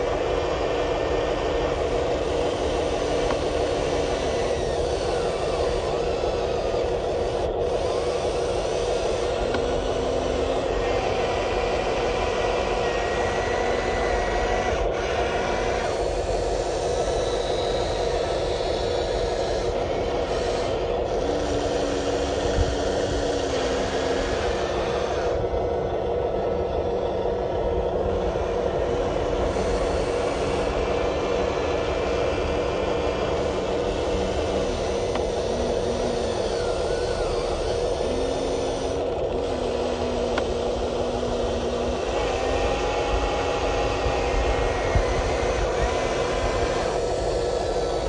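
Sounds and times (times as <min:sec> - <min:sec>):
electric motors whirring: 0:00.0 - 0:48.0.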